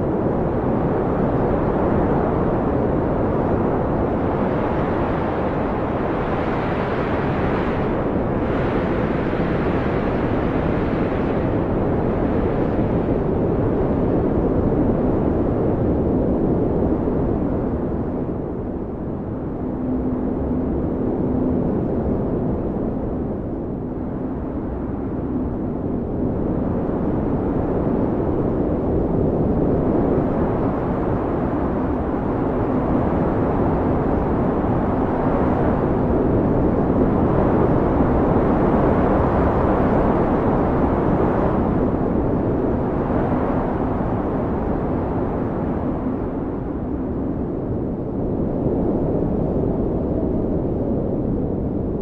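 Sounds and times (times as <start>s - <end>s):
howling blizzard wind: 0.0s - 52.0s.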